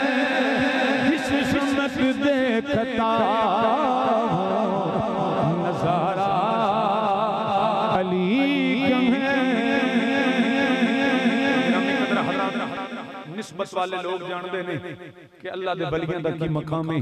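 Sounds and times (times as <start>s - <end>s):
man singing with vibrato: 0.0s - 15.1s.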